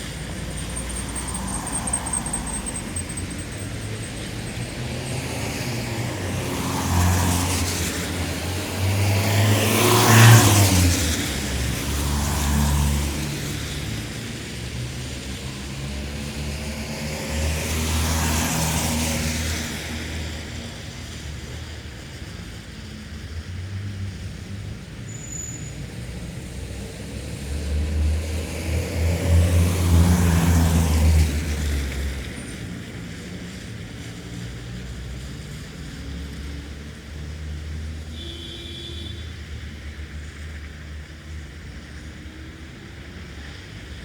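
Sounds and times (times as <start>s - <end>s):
cars passing on wet asphalt: 0.0s - 44.0s.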